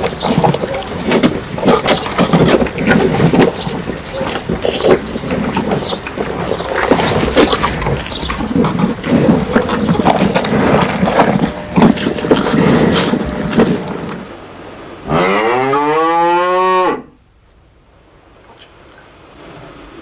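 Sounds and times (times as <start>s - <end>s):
cow mooing: 0.0s - 14.2s, 15.0s - 17.1s.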